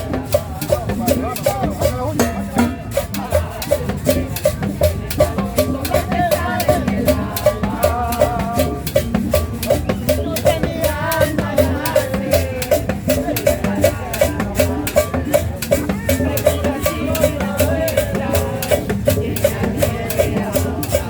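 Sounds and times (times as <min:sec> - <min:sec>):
tropical dance music: 0:00.0 - 0:21.0.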